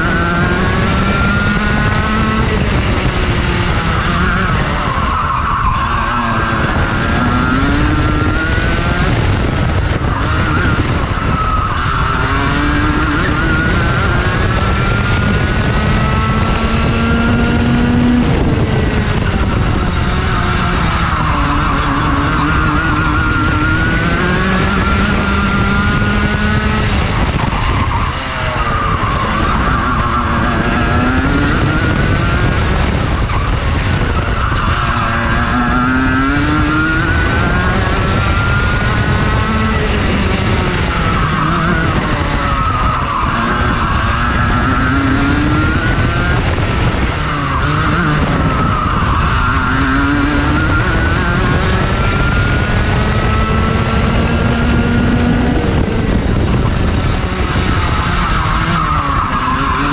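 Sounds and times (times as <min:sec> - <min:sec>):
kart engine at racing speed: 0:00.0 - 0:59.9.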